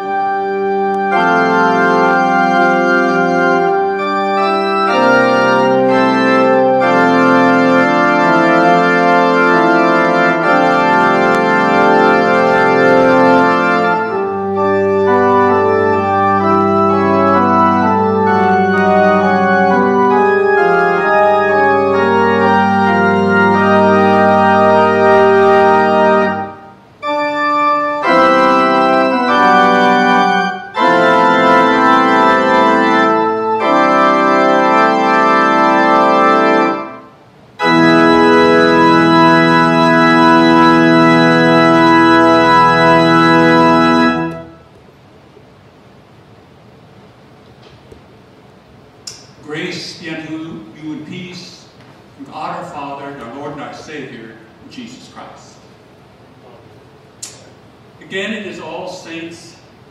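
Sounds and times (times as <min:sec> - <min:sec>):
organ playing chords: 0:00.0 - 0:59.9.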